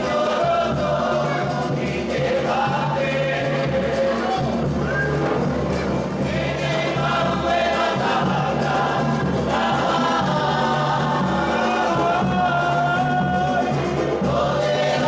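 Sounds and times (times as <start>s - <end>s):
group of voices singing: 0.0s - 15.0s
steady music: 0.0s - 15.0s.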